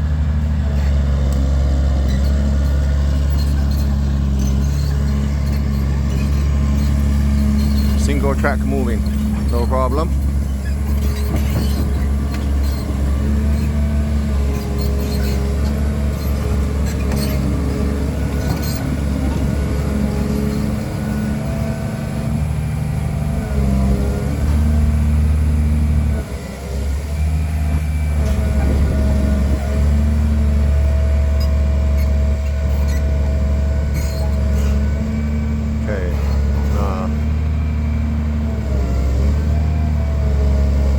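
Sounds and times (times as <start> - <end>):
excavator diesel engine rumble: 0.0 - 40.9.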